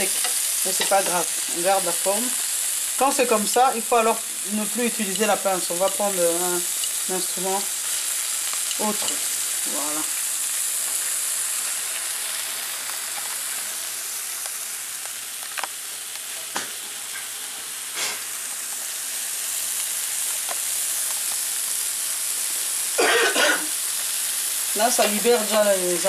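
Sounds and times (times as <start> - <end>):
fish sizzling on a grill: 0.0 - 26.0.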